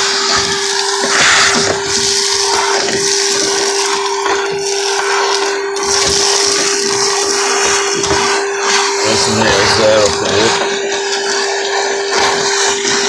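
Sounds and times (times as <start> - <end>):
nozzle sucking up debris: 0.0 - 13.0
vacuum cleaner running: 0.0 - 13.0.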